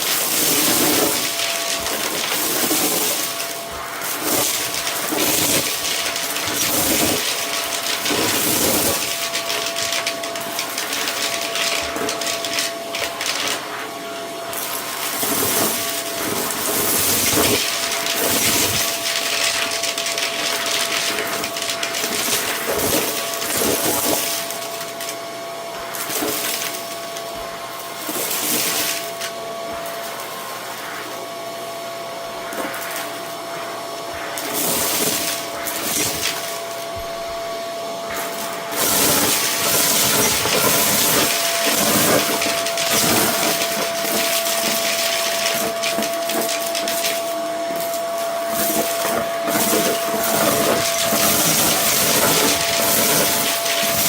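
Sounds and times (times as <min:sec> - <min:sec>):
debris rattling in vacuum: 0:00.0 - 0:31.5, 0:32.3 - 0:54.0
vacuum cleaner running: 0:00.0 - 0:54.0.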